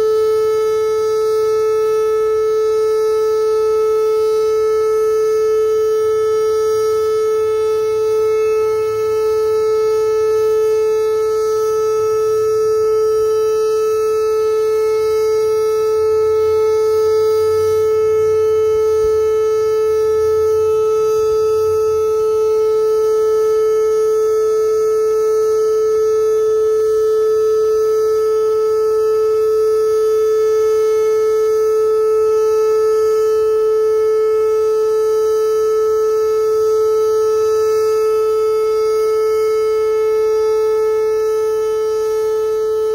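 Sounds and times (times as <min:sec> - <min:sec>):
siren steady tone: 0:00.0 - 0:42.9.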